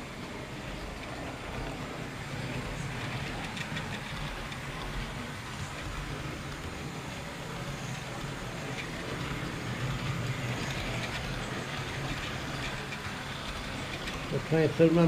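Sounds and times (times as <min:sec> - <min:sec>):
model train wheels rumbling on rails: 0:00.0 - 0:15.0.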